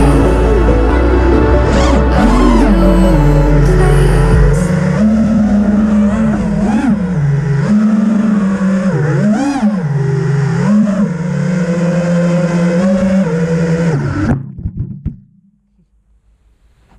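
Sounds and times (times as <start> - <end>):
drone motors buzzing whine: 0.0 - 14.5.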